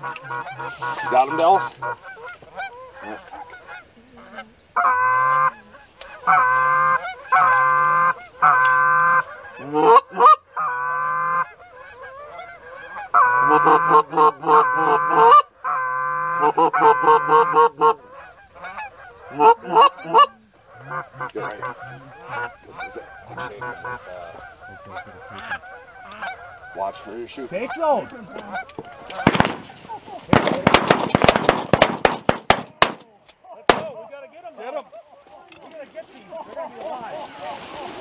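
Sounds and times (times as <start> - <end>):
goose honking: 0.0 - 31.0.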